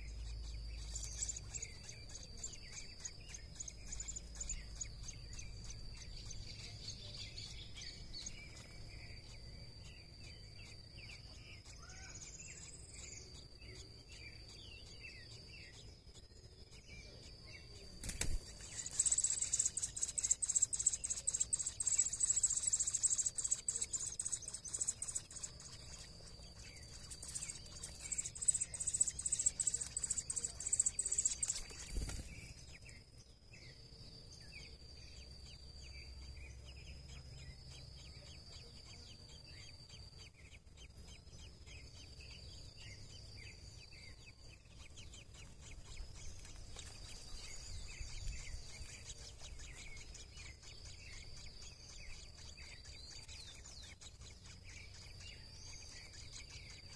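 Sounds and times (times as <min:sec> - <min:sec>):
nestlings cheeping: 0:00.0 - 0:33.2, 0:35.9 - 0:56.9
high insect trill: 0:00.0 - 0:56.9.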